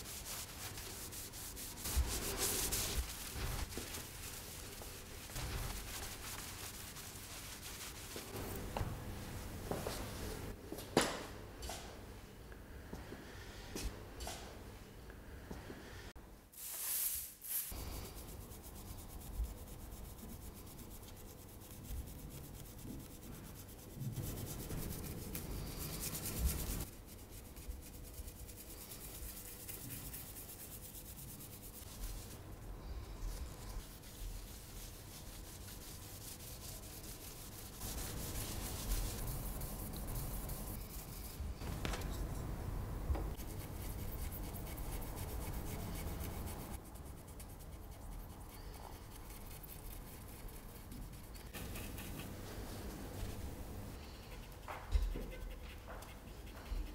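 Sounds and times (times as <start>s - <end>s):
brush and rag scrubbing paper: 0.0s - 8.7s, 16.6s - 41.4s, 43.3s - 56.9s.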